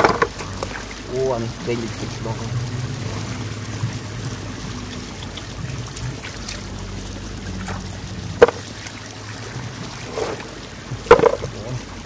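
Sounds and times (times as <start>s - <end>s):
hands in muddy water: 0.0s - 12.0s.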